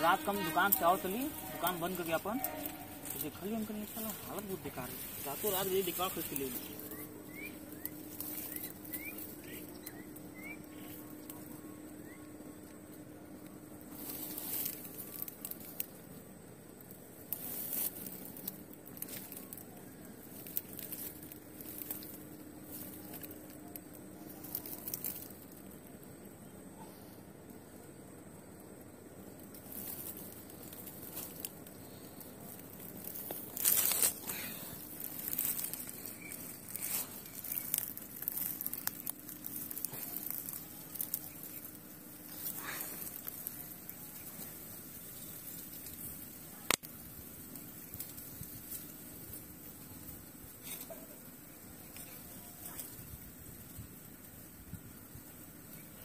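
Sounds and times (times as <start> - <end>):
rustling and crinkling handling: 0.0 - 26.3, 29.2 - 56.0
faint steady hum: 0.0 - 56.0.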